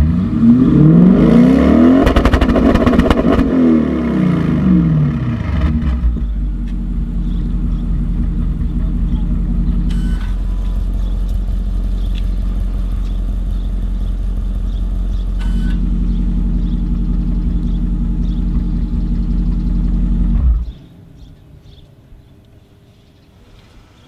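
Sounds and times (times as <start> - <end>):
car engine idling: 1.8 - 22.2.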